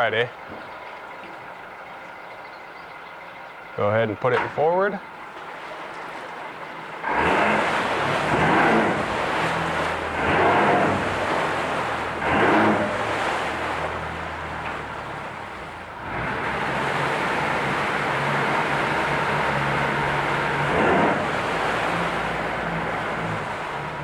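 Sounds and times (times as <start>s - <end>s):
outboard motor revving: 0.0s - 24.0s.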